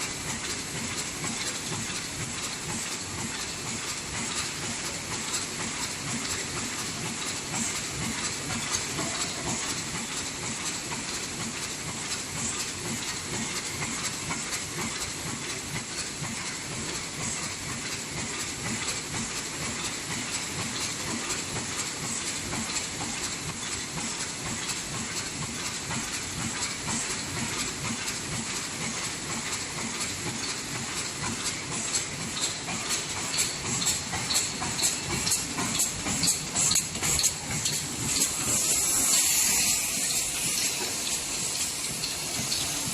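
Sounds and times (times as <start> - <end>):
constant machine hiss: 0.0 - 42.9
machine clattering: 0.0 - 42.9.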